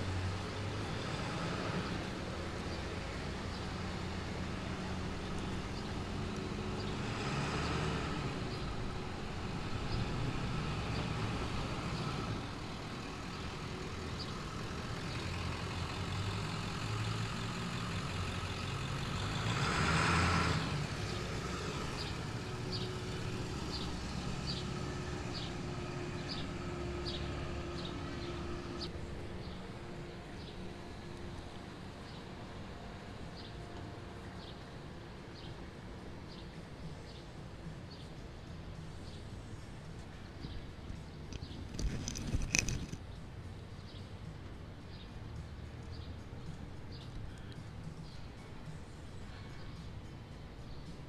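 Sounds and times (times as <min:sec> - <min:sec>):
passing vehicle engines: 0:00.0 - 0:51.0.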